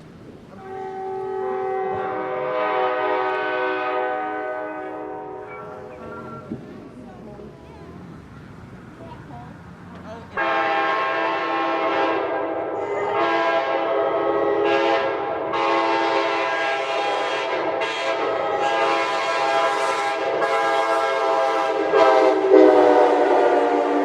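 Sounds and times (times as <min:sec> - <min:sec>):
locomotive air horn chord: 0:00.6 - 0:06.9, 0:10.3 - 0:24.0.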